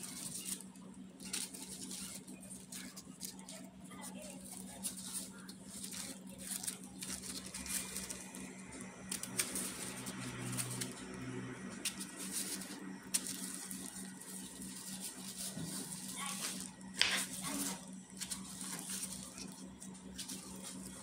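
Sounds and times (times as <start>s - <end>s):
plastic gloves crinkling: 0.0s - 21.0s
small clicks and crackles: 0.0s - 21.0s
steady low hum: 0.0s - 21.0s.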